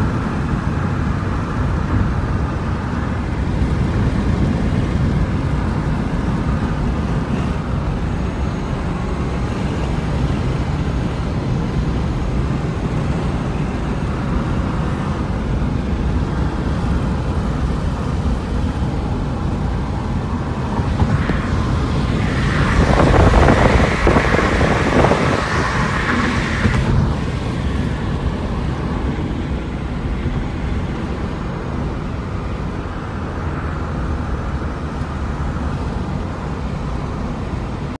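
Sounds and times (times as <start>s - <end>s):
tyre and road noise: 0.0s - 38.0s.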